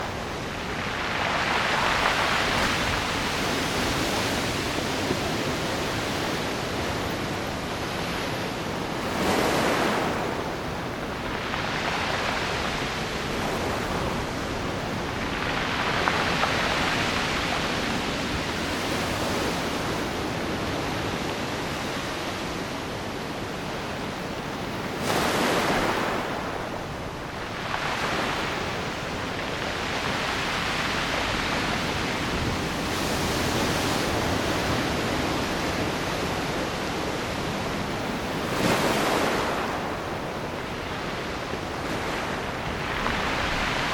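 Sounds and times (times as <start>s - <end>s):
ocean surf on shore: 0.0s - 43.9s.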